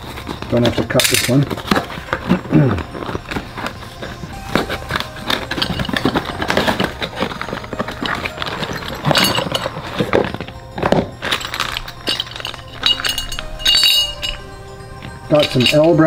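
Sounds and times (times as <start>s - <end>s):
background music: 0.0s - 16.0s
cardboard box and plastic bag rustling: 0.0s - 16.0s.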